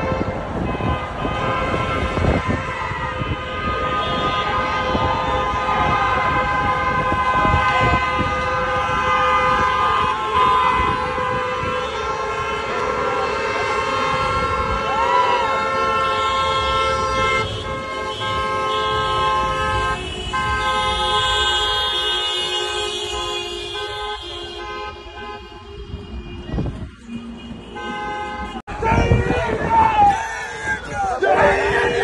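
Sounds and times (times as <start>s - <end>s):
car horns blasting: 0.0s - 32.0s.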